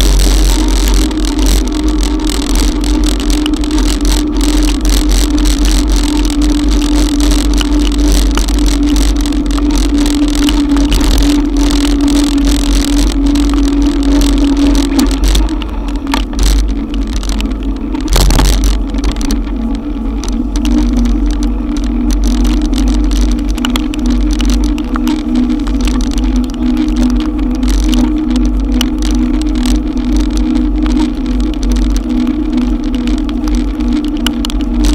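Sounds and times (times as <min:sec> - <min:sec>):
electric bike motor hum: 0:00.0 - 0:34.9
rain: 0:00.0 - 0:34.9
road noise: 0:00.0 - 0:34.9
wind rumble: 0:00.0 - 0:34.9.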